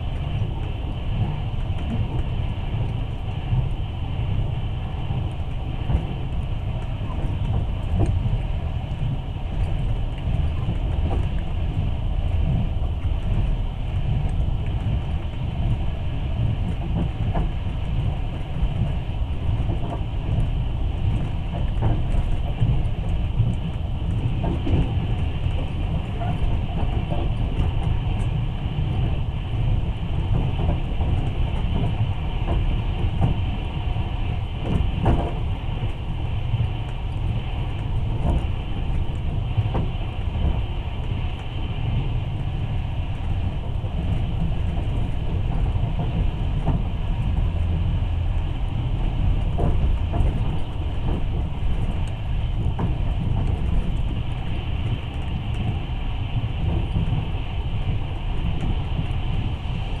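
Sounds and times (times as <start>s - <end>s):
train wheels rumbling on rails: 0.0s - 60.0s.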